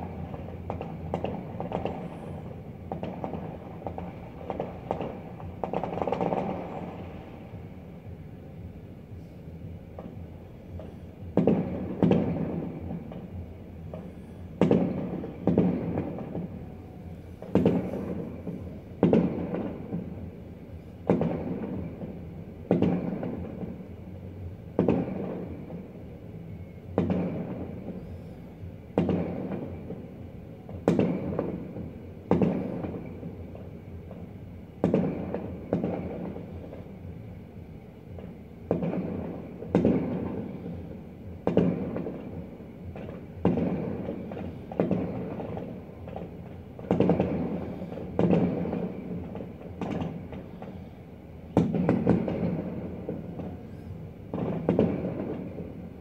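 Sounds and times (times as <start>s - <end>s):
firework shells booming: 0.0s - 7.4s, 10.8s - 20.2s, 21.0s - 23.8s, 26.9s - 28.3s, 28.9s - 30.1s, 30.7s - 33.3s, 34.0s - 36.9s, 38.1s - 50.9s, 51.5s - 56.0s.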